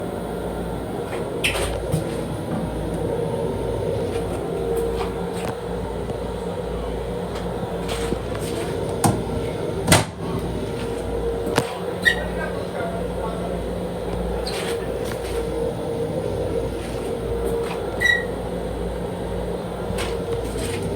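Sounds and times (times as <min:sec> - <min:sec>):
train interior rumble: 0:00.0 - 0:20.9.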